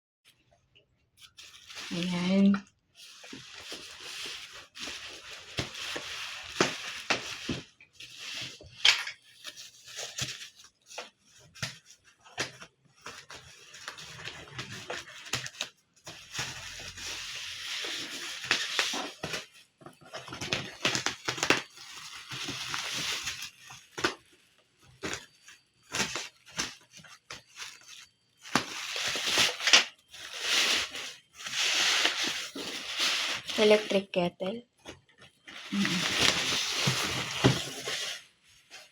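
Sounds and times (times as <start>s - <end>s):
packaging rustling and tearing: 1.2s - 2.4s, 3.0s - 34.0s, 35.3s - 38.9s.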